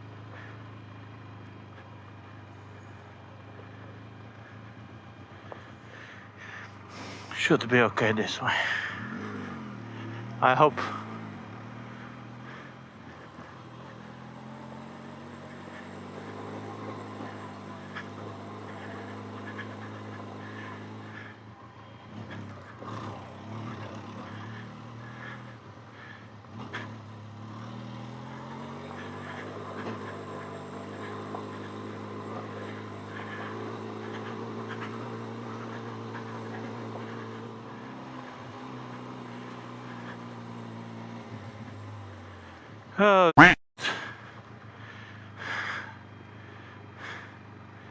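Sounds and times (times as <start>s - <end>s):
motorcycle engine low revs: 0.0s - 42.9s, 43.9s - 47.9s.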